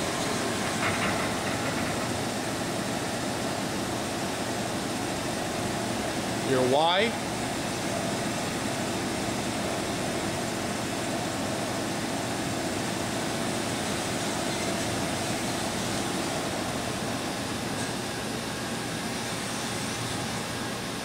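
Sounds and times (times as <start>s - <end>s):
machining center running: 0.0s - 21.0s.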